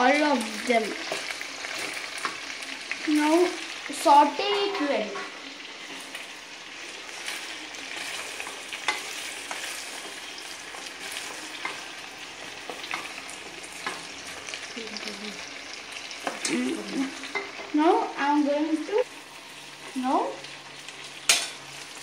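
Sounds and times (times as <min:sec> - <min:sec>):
vegetables sizzling in pot: 0:00.0 - 0:22.0.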